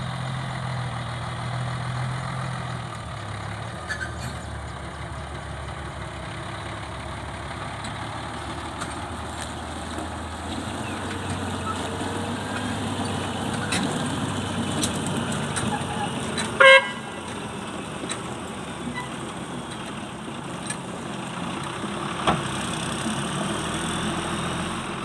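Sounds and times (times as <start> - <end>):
truck diesel engine running low: 0.0 - 25.0.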